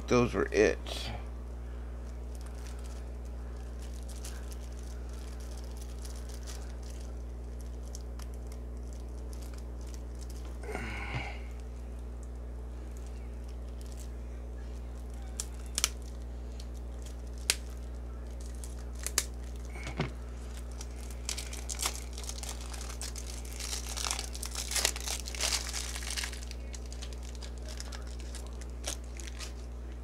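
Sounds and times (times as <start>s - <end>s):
low hum: 0.0s - 30.0s
foil wrapper crinkling and tearing: 2.0s - 30.0s.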